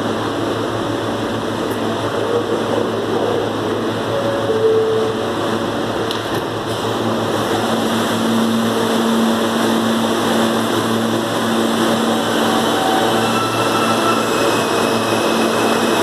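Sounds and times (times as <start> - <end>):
train equipment hum: 0.0 - 16.0.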